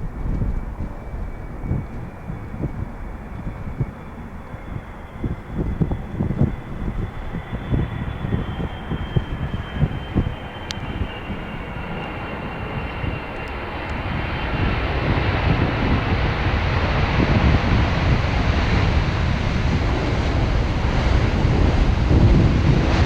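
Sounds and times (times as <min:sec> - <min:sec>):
jet engines rushing: 0:00.0 - 0:23.0.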